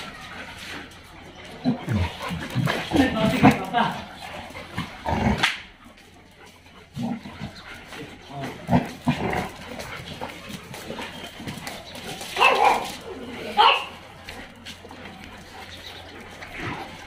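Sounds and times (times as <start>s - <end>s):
dogs growling and yelping: 0.0s - 17.0s.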